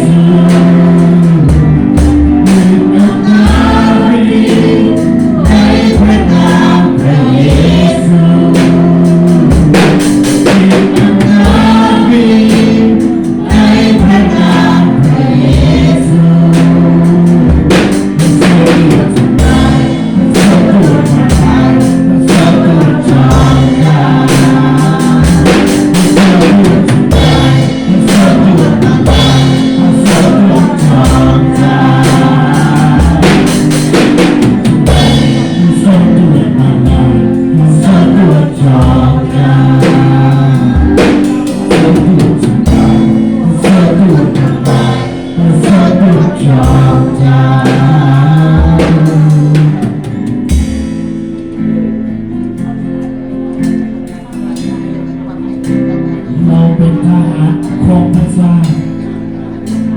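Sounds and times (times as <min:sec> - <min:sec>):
bass drum beating: 0:00.0 - 0:52.0
people singing: 0:00.0 - 0:59.9
worship band playing: 0:00.0 - 0:59.9.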